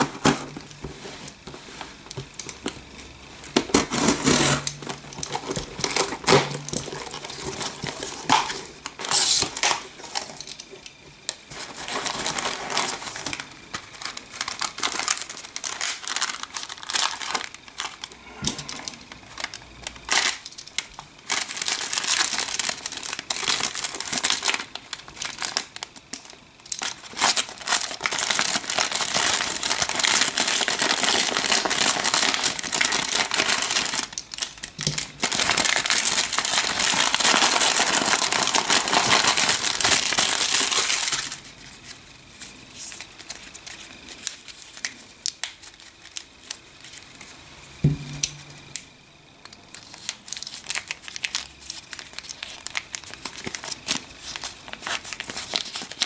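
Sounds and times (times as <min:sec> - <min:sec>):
plastic wrap and envelope crinkling: 0:00.0 - 0:47.4, 0:49.6 - 0:56.0.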